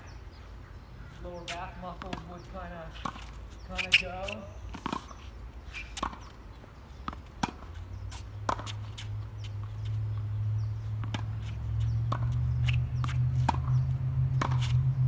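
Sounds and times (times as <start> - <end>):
tennis balls struck and bouncing: 1.2 - 15.0.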